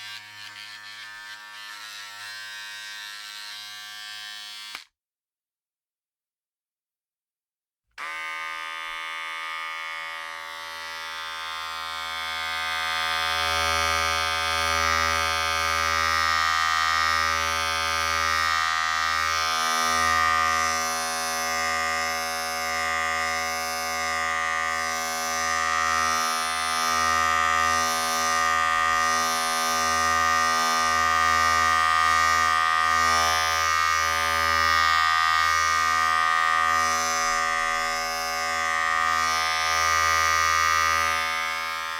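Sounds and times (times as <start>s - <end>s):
electric razor buzzing: 0.0s - 4.9s, 8.0s - 41.9s.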